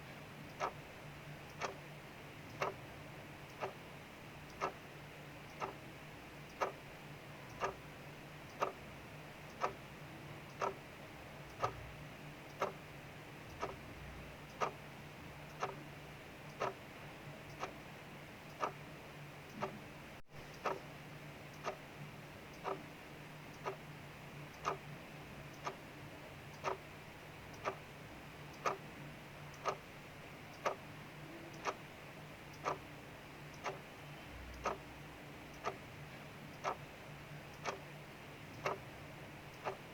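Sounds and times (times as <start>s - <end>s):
mechanical clock ticking: 0.4s - 19.8s, 20.4s - 39.9s.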